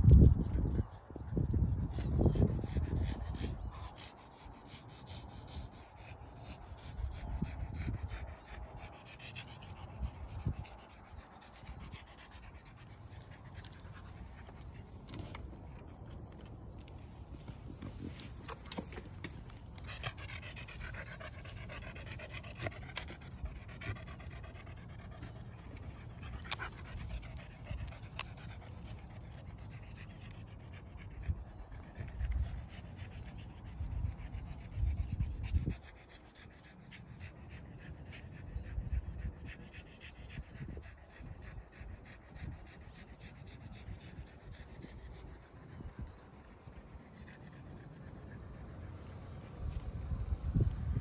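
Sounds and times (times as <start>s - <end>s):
dog panting: 1.4s - 51.0s.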